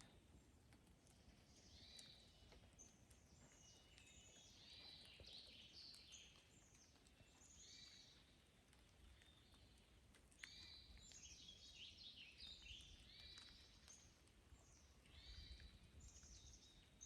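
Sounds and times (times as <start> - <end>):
raindrops ticking: 0.0 - 17.0.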